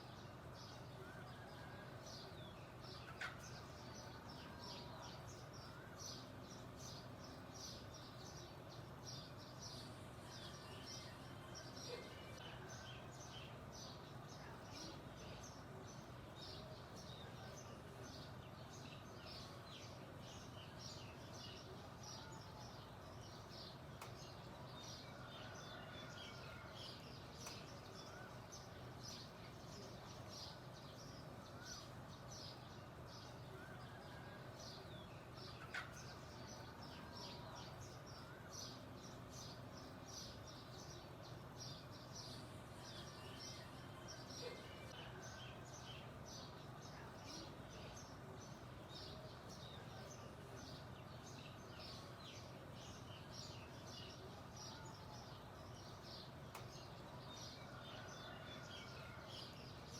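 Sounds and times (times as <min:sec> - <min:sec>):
faint low background noise: 0:00.0 - 0:59.9
songbirds chirping: 0:00.0 - 0:59.9.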